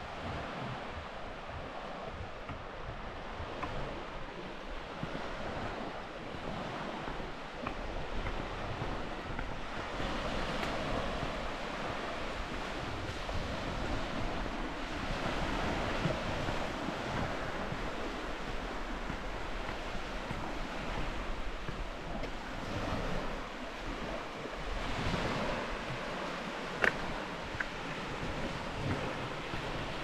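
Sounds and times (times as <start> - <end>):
sea waves washing ashore: 0.0 - 30.0
wind on microphone: 0.0 - 30.0.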